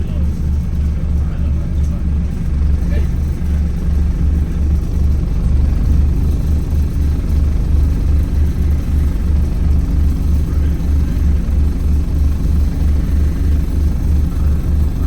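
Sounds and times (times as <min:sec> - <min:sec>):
bus engine low rumble: 0:00.0 - 0:15.0.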